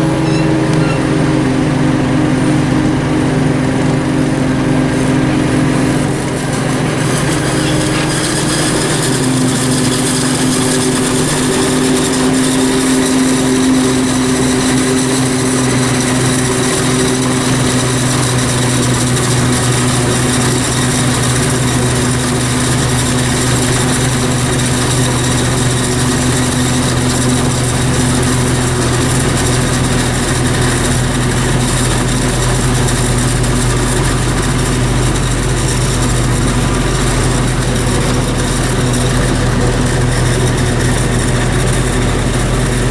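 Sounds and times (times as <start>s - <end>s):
farm machinery engines running: 0.0s - 42.9s.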